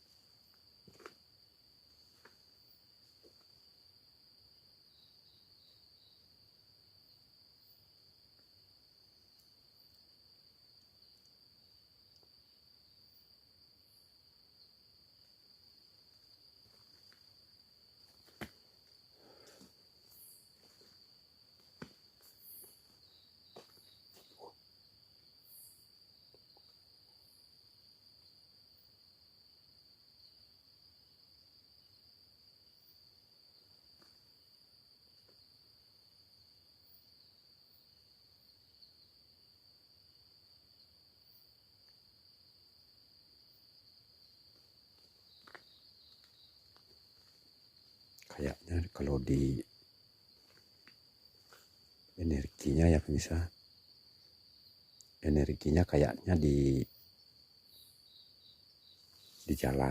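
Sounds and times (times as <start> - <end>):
night insects chirring: 0.0 - 59.9.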